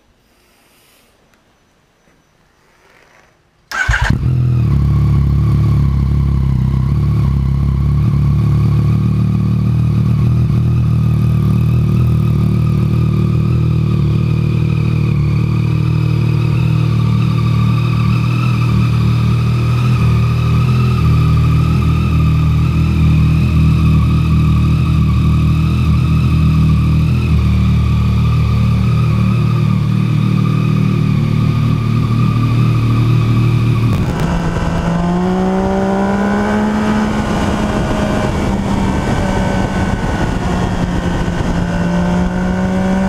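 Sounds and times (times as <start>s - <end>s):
motorcycle engine starting and idling: 2.8s - 43.0s.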